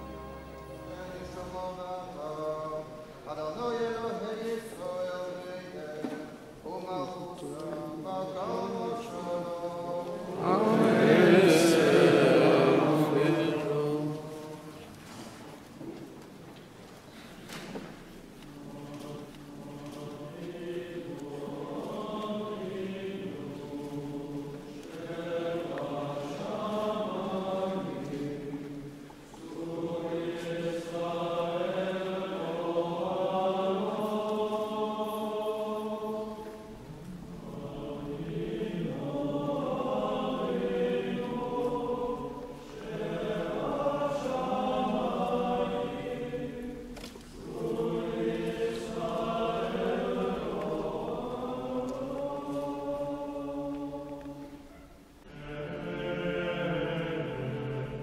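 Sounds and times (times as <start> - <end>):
choir chanting slowly: 0.0 - 15.7, 17.0 - 58.0.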